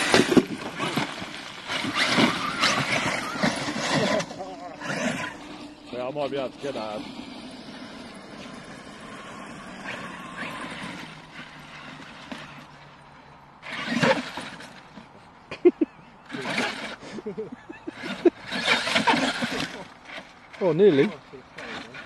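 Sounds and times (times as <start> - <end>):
rc truck throttle bursts: 0.0 - 12.7, 13.6 - 14.9, 16.3 - 22.0
rc truck motor running: 0.0 - 15.2, 16.2 - 22.0.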